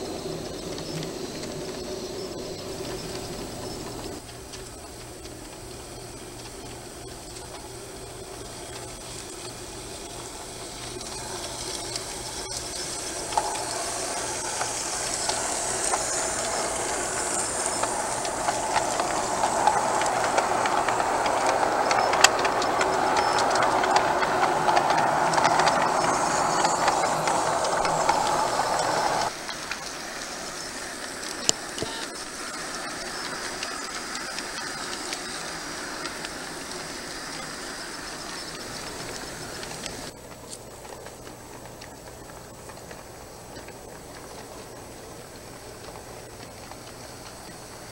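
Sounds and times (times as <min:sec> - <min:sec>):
model train rolling on track: 0:00.0 - 0:47.9
track clicks: 0:00.0 - 0:47.9.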